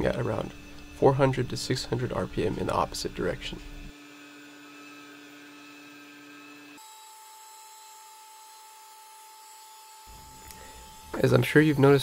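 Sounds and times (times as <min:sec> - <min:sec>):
grinder whining: 0:00.0 - 0:08.1, 0:10.0 - 0:12.0.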